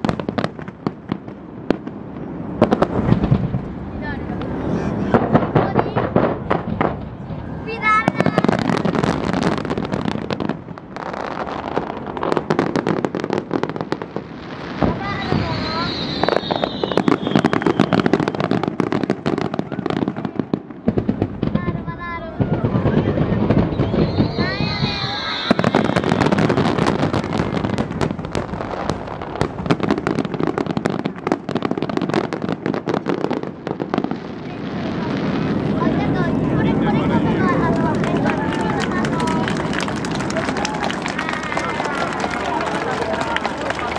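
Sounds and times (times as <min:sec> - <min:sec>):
heavy low firework boom: 0:00.0 - 0:40.5
fireworks bursts and crackling: 0:00.0 - 0:43.9.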